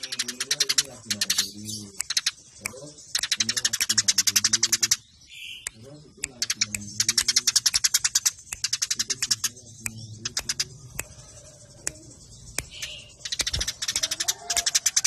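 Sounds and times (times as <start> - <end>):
sparrows chirping agitatedly: 0.0 - 15.0.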